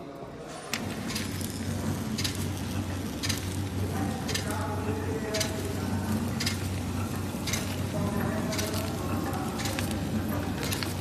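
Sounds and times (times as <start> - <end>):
packing machine humming: 0.4 - 11.0
machine clicking: 0.6 - 11.0.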